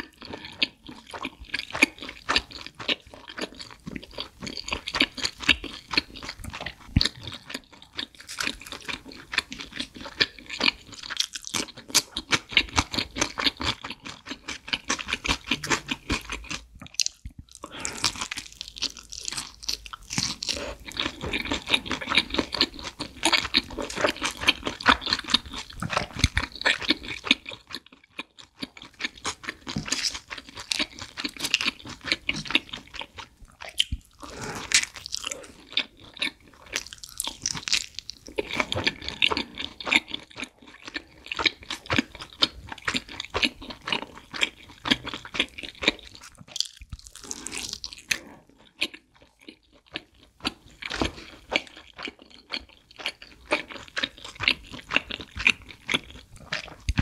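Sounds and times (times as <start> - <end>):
biting and chewing pizza: 0.0 - 57.0.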